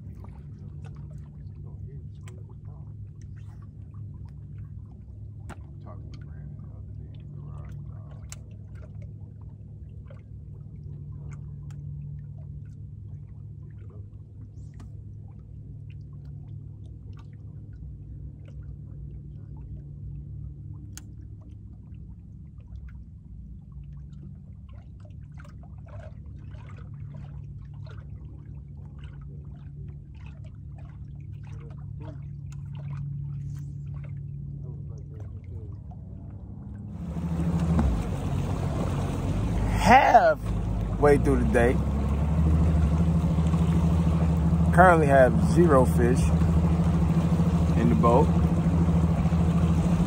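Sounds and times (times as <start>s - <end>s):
small clicks and splashes: 0.0s - 39.8s, 40.4s - 50.0s
steady low hum: 0.0s - 50.0s
water lapping against boat hull: 0.0s - 50.0s.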